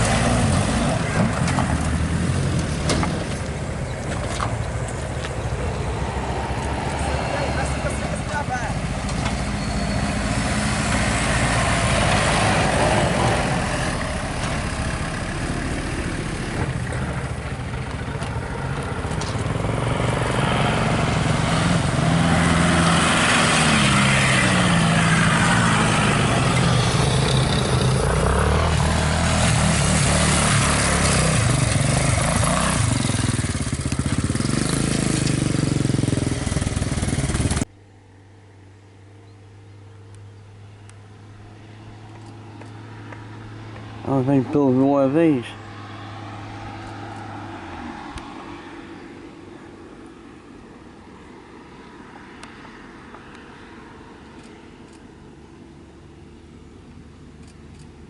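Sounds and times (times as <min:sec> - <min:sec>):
jeeps and motorcycles passing: 0:00.0 - 0:58.0.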